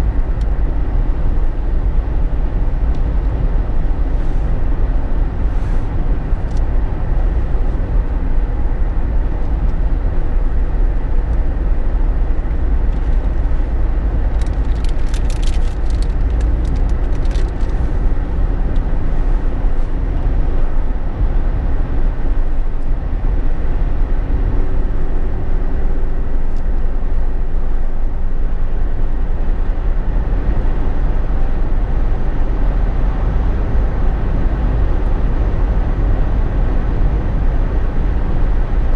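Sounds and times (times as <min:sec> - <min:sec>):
car cabin road noise: 0:00.0 - 0:38.9.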